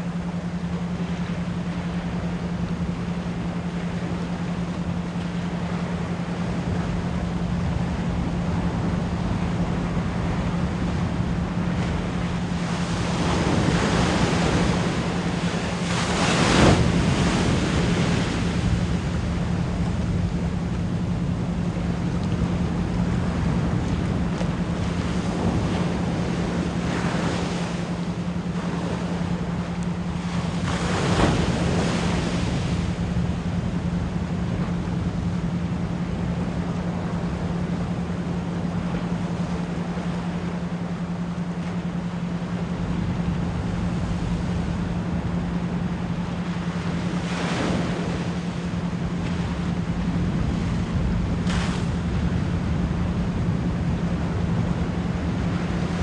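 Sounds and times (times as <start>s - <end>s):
ocean waves washing in: 0.0s - 56.0s
pulsed low pure tone: 0.0s - 56.0s.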